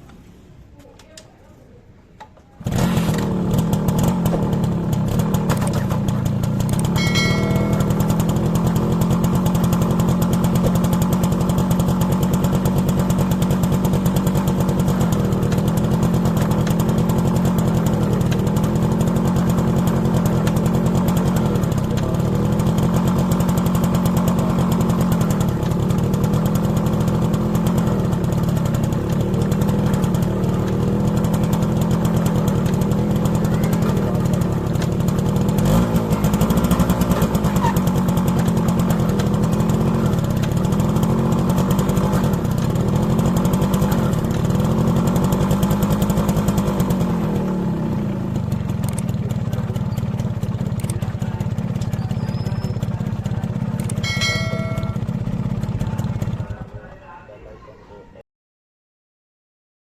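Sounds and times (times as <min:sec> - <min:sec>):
motorcycle engine running: 0:02.6 - 0:56.9.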